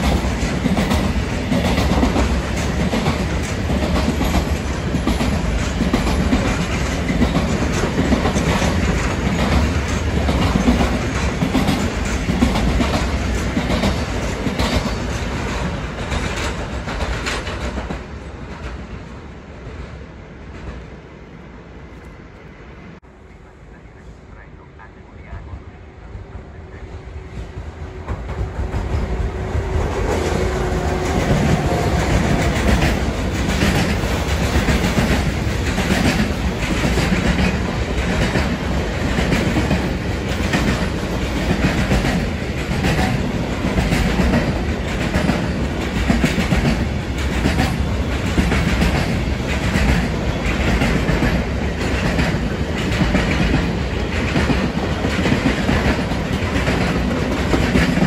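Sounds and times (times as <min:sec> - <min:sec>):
freight train wheels clacking: 0:00.0 - 0:21.0, 0:26.4 - 0:58.0.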